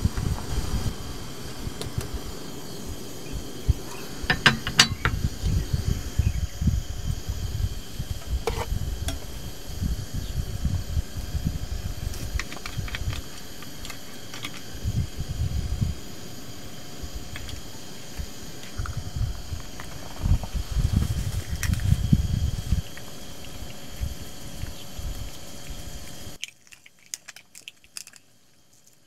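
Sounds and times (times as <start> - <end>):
steady low rumble: 0.0 - 26.4.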